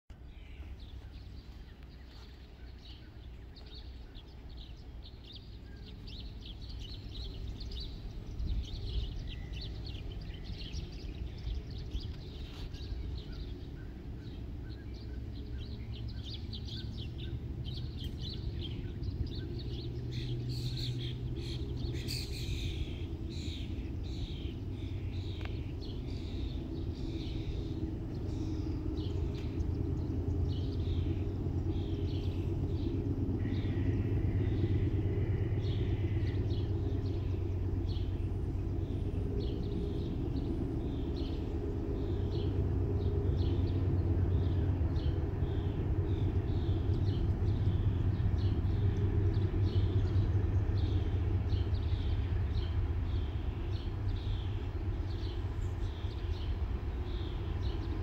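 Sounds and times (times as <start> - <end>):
distant locomotive rumble: 0.1 - 58.0
songbirds chirping: 0.1 - 58.0.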